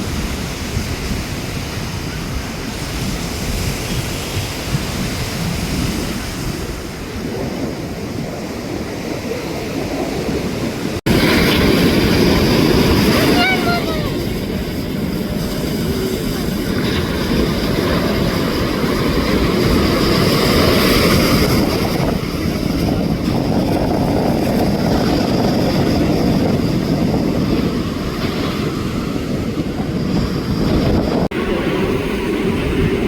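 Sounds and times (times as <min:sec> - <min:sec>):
airliner passing overhead: 0:00.0 - 0:33.0.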